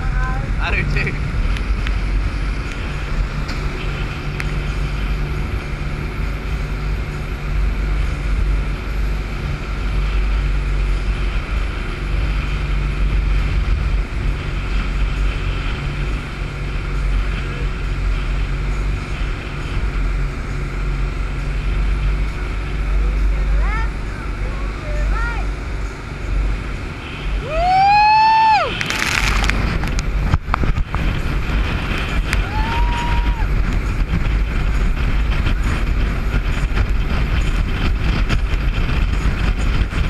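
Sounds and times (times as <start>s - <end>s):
speedboat engines running: 0.0s - 40.0s
wind buffeting microphone: 0.0s - 40.0s.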